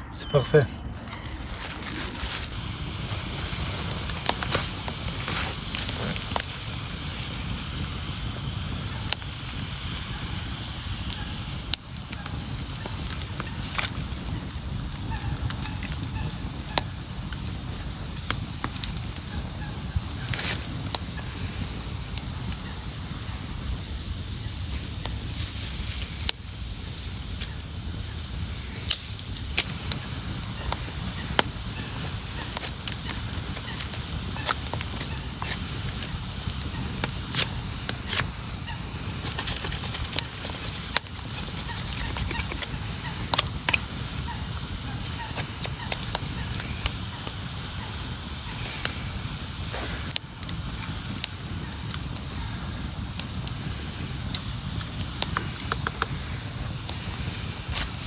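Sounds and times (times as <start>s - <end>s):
campfire crackling and popping: 1.0s - 58.0s.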